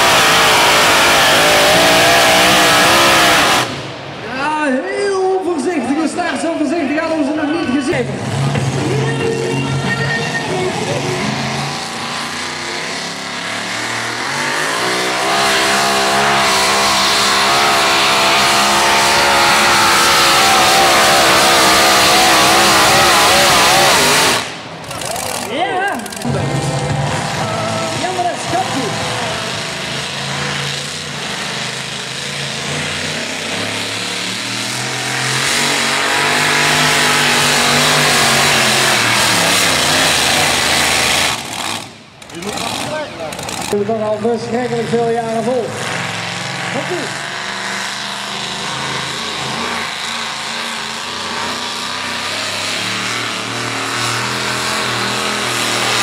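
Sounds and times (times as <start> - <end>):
pickup engine revving: 0.0 - 4.3, 7.8 - 56.0.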